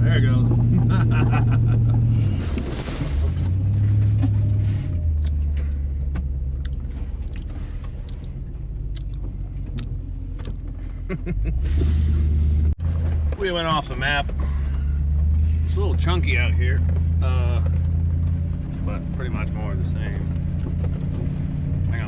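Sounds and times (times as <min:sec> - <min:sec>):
truck engine pulling: 0:00.0 - 0:22.0.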